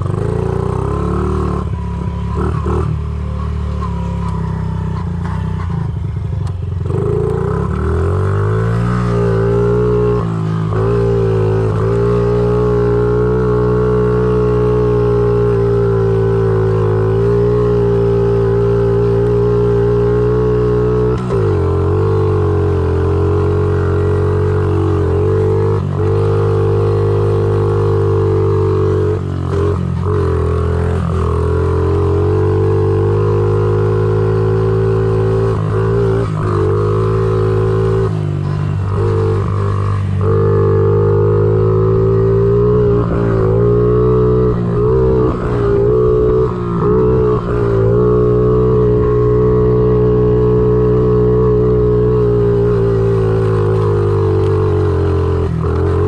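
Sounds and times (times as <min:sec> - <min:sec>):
small motorcycle engine droning: 0:00.0 - 0:56.0.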